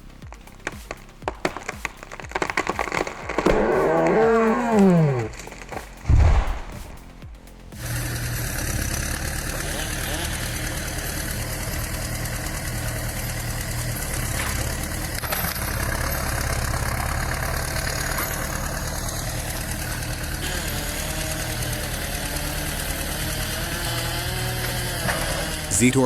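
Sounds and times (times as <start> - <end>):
large engine idling: 0.0 - 26.0.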